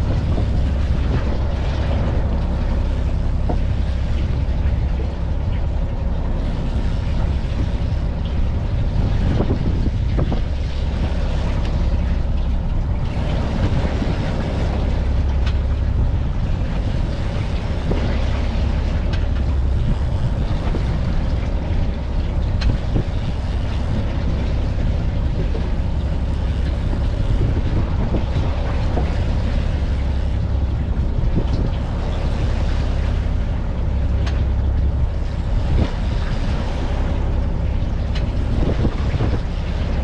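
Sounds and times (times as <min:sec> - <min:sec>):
boat engine drone: 0:00.0 - 0:40.0
rush of wind and water: 0:00.0 - 0:40.0.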